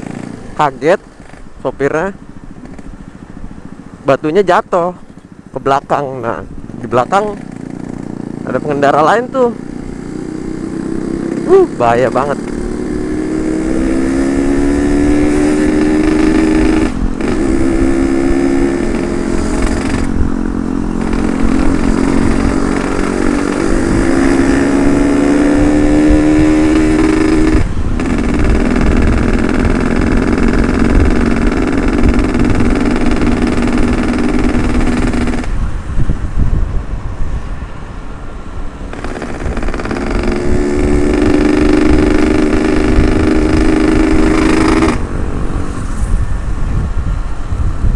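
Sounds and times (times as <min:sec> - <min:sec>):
motorcycle two-stroke engine accelerating: 0:00.0 - 0:35.8, 0:38.9 - 0:46.4.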